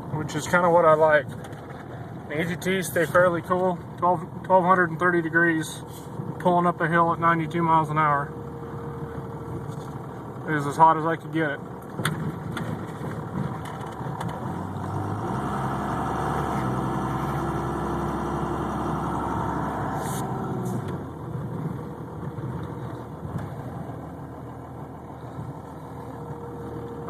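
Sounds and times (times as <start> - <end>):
diesel engine heard from inside cab: 0.0 - 27.0.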